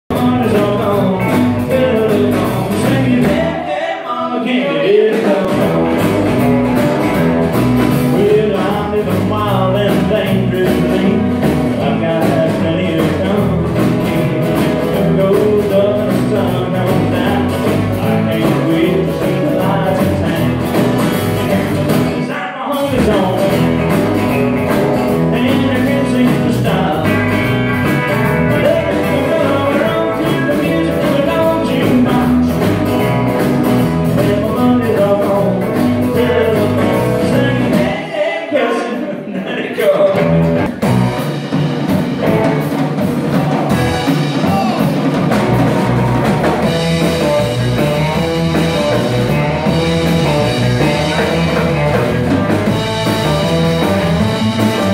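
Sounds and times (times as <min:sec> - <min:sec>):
man singing: 0:00.0 - 0:07.2, 0:07.9 - 0:40.7, 0:43.3 - 0:45.2, 0:46.6 - 0:54.9
live country band playing: 0:00.0 - 0:54.9.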